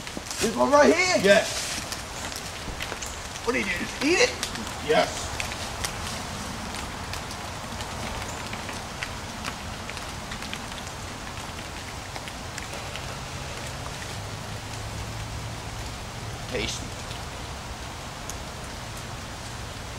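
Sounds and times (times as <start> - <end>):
rain pattering: 0.0 - 19.9.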